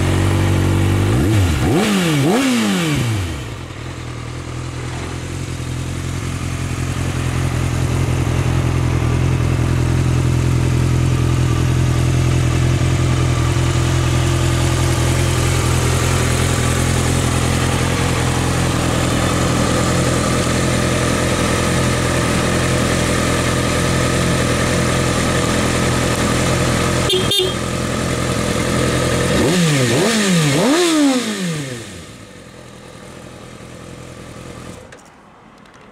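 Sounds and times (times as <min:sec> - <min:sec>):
motorcycle engine idling and revving: 0:00.0 - 0:35.9.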